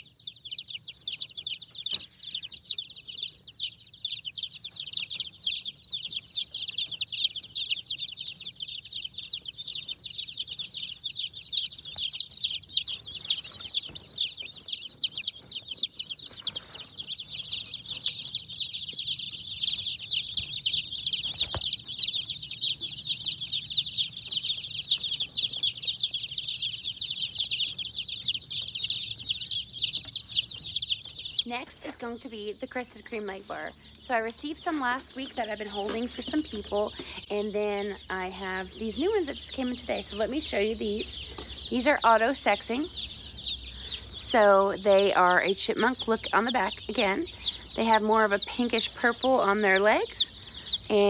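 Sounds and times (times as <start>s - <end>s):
baby chicks peeping: 0.0s - 51.0s.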